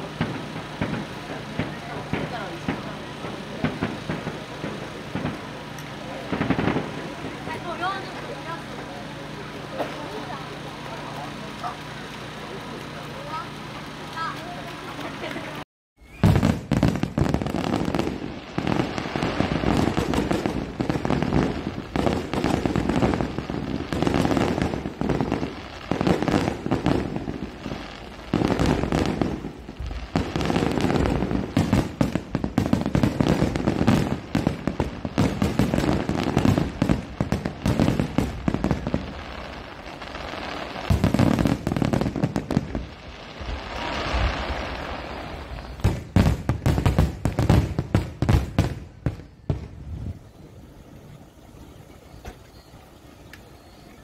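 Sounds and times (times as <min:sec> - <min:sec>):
fireworks booming and crackling: 0:00.0 - 0:52.7.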